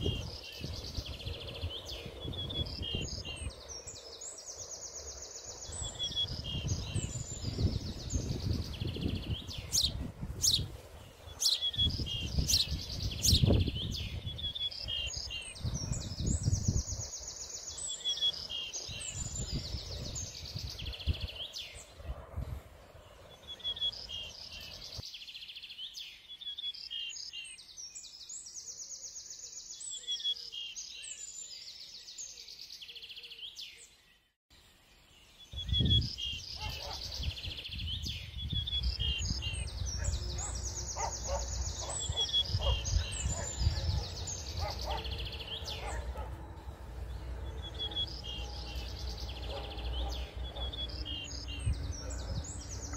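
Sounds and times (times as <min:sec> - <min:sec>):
birds singing: 0:00.0 - 0:52.9.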